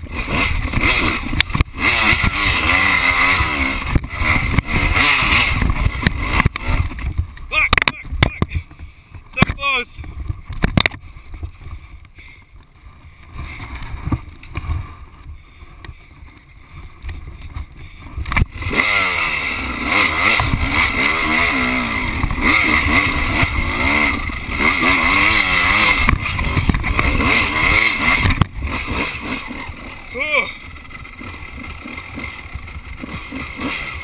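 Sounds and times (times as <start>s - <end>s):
dirt bike engine revving: 0.0s - 12.0s, 12.8s - 34.0s.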